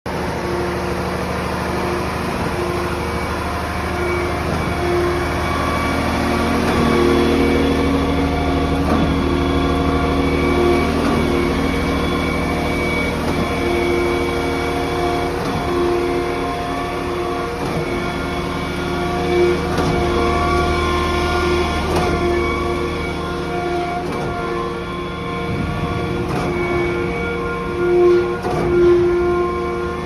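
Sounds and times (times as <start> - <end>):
diesel truck engine running: 0.1 - 30.0
whining tones: 0.1 - 30.0.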